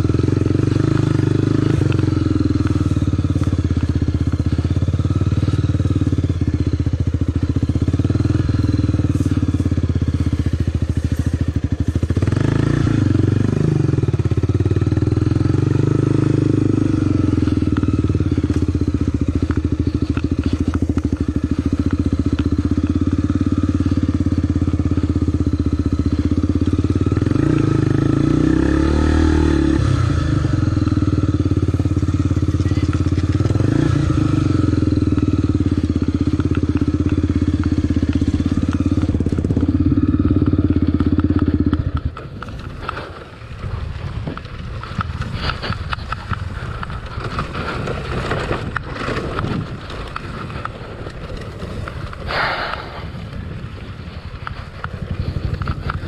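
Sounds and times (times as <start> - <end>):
motorcycle engine revving under load: 0.0 - 56.0.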